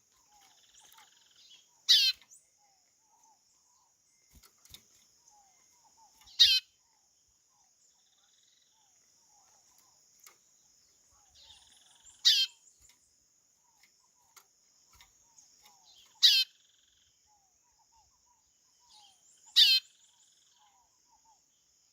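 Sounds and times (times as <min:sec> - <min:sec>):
bird calling: 0:00.0 - 0:10.0, 0:10.8 - 0:14.4, 0:15.0 - 0:21.5
faint small chirps: 0:00.0 - 0:21.9.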